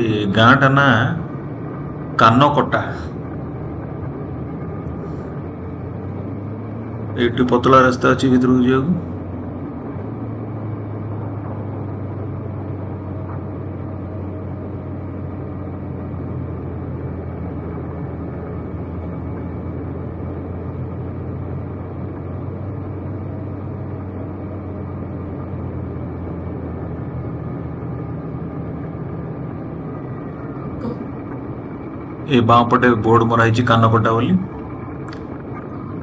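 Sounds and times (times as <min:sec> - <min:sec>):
low hum: 0:00.0 - 0:36.0
road noise: 0:00.0 - 0:36.0
vehicle engine: 0:00.0 - 0:36.0.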